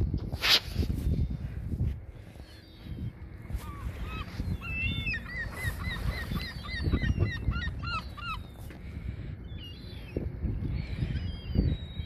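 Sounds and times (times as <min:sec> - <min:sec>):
gulls and geese squawking: 0:02.2 - 0:12.0.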